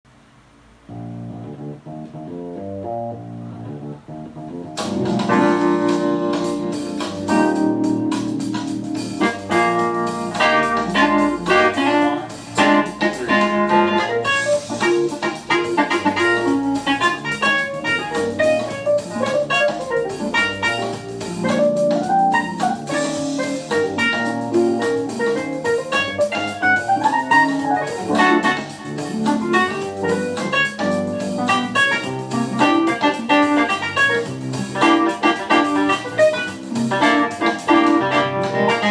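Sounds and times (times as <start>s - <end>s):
jazz band with keyboards and guitar: 0.6s - 38.9s.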